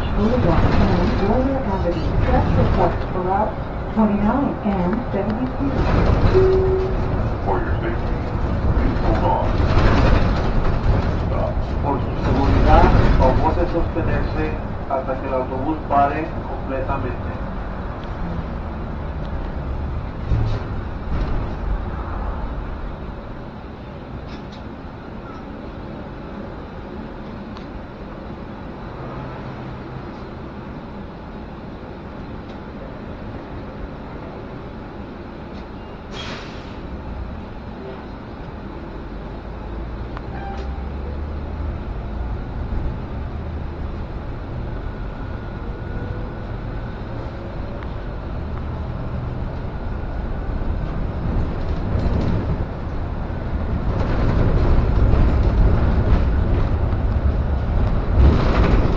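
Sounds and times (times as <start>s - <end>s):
bus engine rumble: 0.0s - 58.9s.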